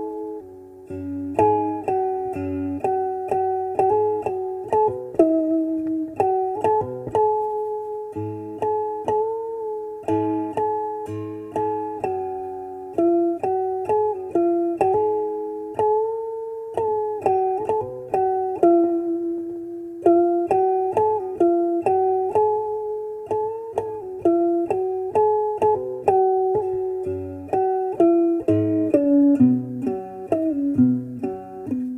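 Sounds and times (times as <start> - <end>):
plucked string melody: 0.0 - 31.9.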